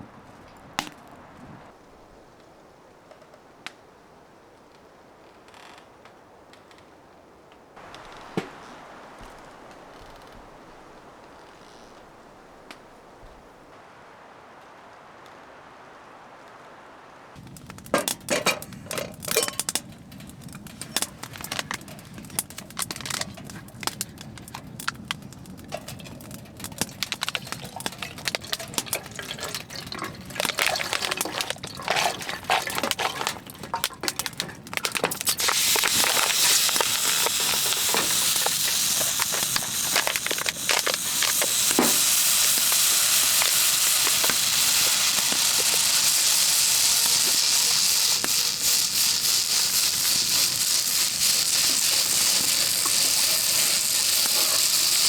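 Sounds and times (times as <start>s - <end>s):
water hissing near boil: 0.0s - 5.2s, 7.2s - 55.0s
wood stove crackling: 5.5s - 55.0s.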